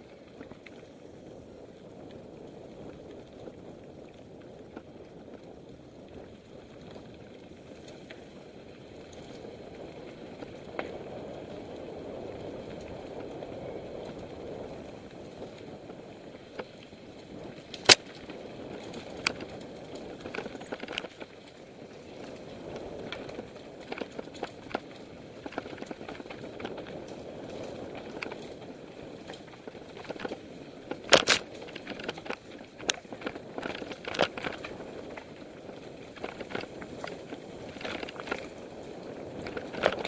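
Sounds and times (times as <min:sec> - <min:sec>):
bike tyres rumbling on dirt: 0:00.0 - 0:40.0
bike rattling over rocks: 0:01.7 - 0:40.0.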